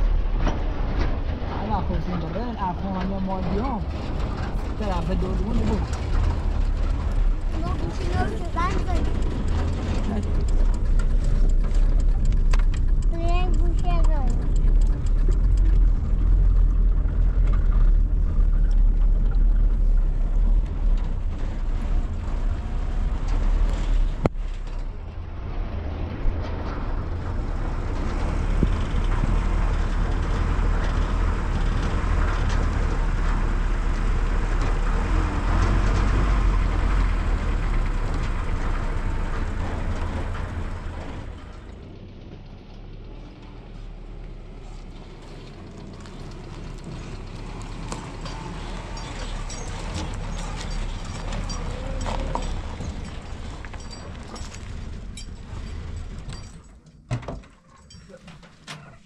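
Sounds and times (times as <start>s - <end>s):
vehicle rumble and road noise: 0.0s - 59.0s.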